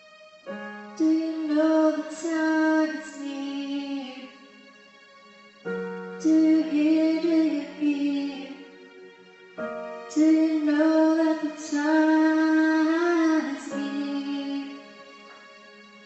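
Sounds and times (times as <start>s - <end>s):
soft musical backing: 0.0s - 16.0s.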